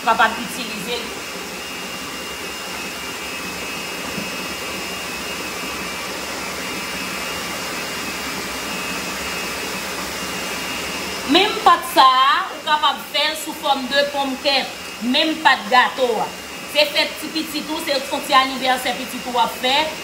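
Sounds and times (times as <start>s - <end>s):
fan whooshing: 0.0s - 20.0s.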